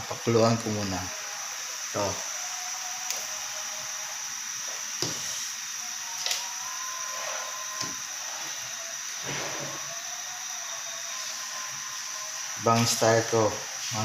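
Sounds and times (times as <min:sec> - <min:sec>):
faint high whine: 0:00.0 - 0:14.0
steady hiss: 0:00.0 - 0:14.0.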